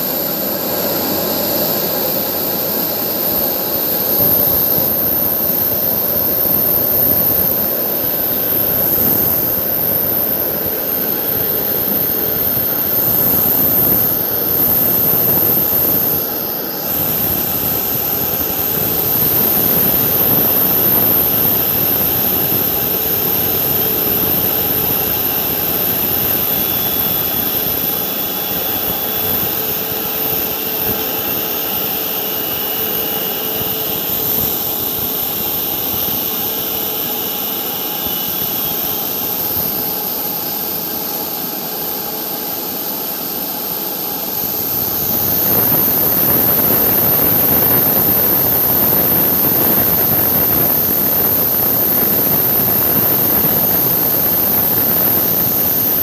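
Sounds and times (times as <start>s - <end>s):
jet engines taxiing past: 0.0s - 56.0s.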